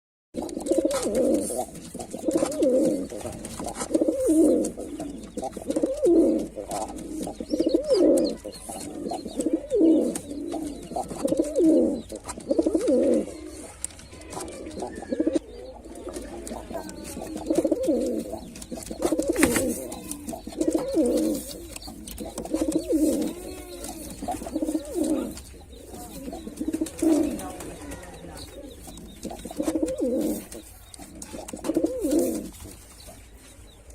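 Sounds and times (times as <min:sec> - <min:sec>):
pigeon cooing: 0:00.4 - 0:33.3.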